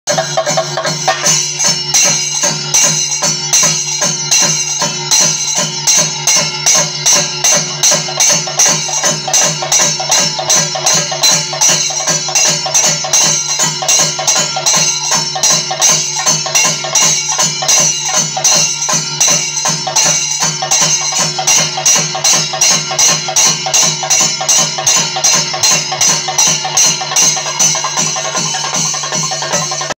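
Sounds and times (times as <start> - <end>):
drums beaten with sticks: 0.1 - 30.0.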